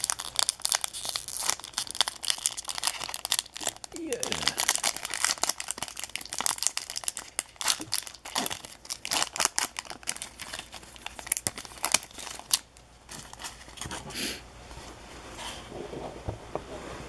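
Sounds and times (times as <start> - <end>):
plastic wrapper crinkling: 0.0 - 13.9.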